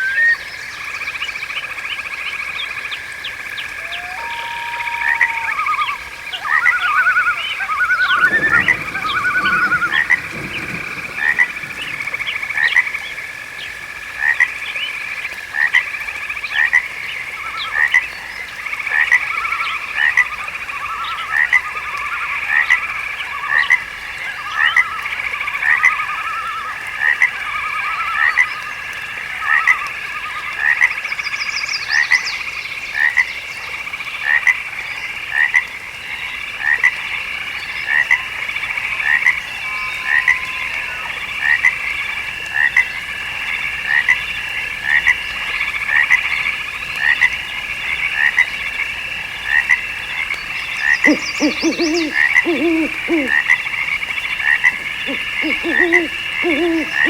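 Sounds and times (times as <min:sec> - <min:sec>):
frogs chirping: 0:00.0 - 0:57.0.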